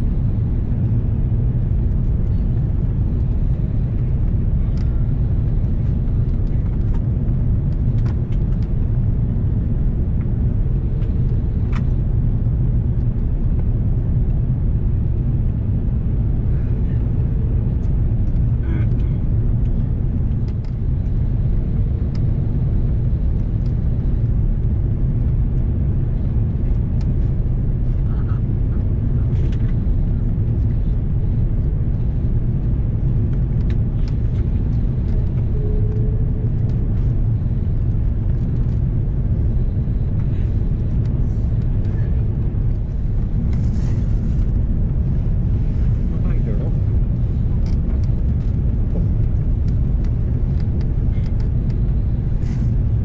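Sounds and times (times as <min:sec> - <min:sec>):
airplane cabin engine rumble: 0:00.0 - 0:53.0.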